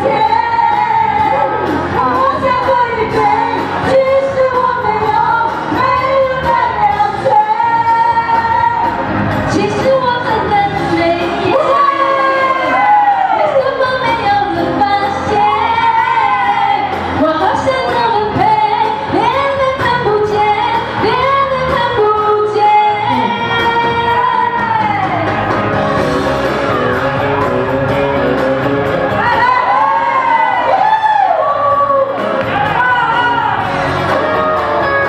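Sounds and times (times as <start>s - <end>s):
pop song with vocals: 0.0s - 35.0s.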